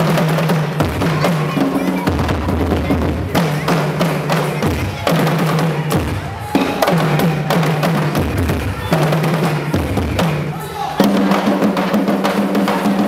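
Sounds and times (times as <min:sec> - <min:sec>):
hand drums fast rhythm: 0:00.0 - 0:13.0.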